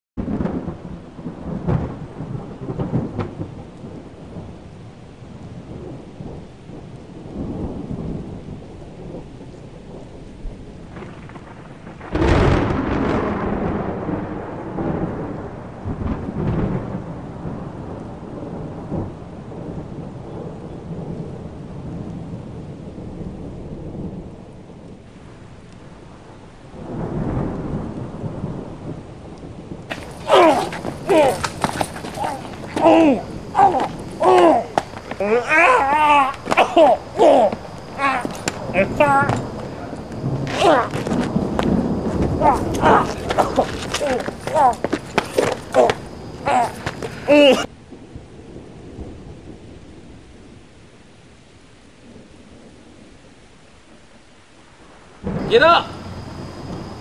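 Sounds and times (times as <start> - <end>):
sharp loud thunderclap: 0.2 - 4.6, 5.6 - 24.5, 26.8 - 49.4, 55.2 - 57.0
rolling thunder: 0.2 - 50.7, 54.8 - 57.0
rain: 0.2 - 57.0.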